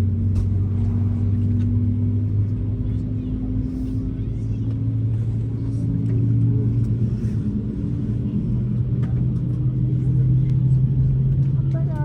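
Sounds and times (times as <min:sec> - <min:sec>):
jet engines heard from cabin: 0:00.0 - 0:12.0.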